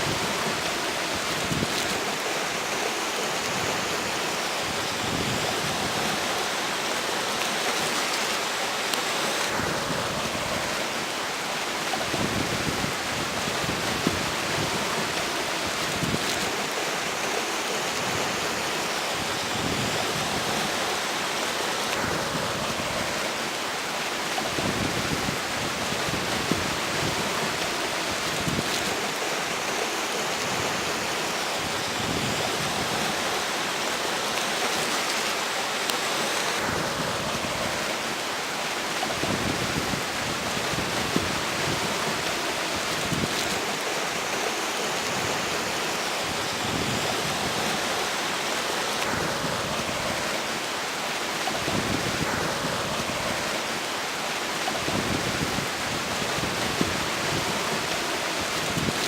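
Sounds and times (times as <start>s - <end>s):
wind gusting on microphone: 0.0s - 6.6s, 9.4s - 21.1s, 24.2s - 33.9s, 36.0s - 50.8s, 51.4s - 59.0s
river rushing: 0.0s - 59.0s.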